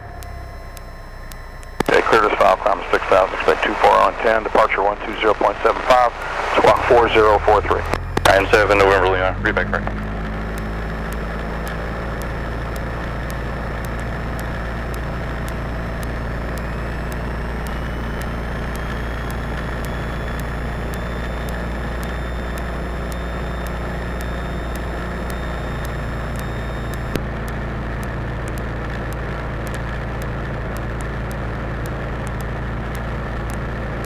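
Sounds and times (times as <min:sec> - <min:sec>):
click: 0:00.0 - 0:34.0
faint high whine: 0:00.0 - 0:34.0
airplane engine running: 0:01.6 - 0:34.0.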